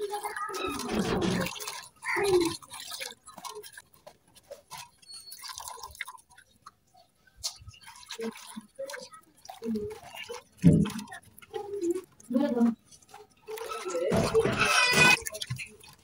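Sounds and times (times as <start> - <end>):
small splashes and drips: 0.0 - 16.0
water sloshing in steel bowl: 0.0 - 16.0.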